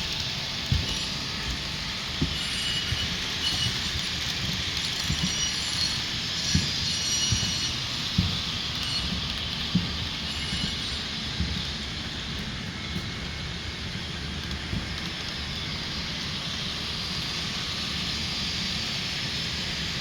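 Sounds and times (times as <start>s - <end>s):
model train whirring: 0.0s - 20.0s.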